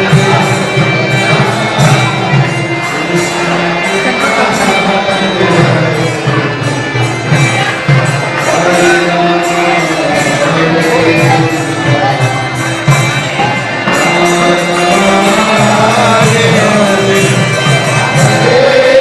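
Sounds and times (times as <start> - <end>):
hand cymbals: 0.0 - 19.0.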